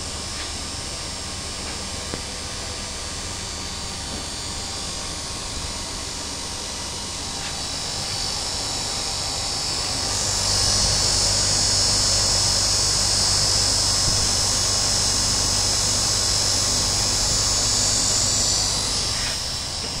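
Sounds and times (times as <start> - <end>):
motor low hum: 0.0 - 20.0
pump whining: 0.0 - 20.0.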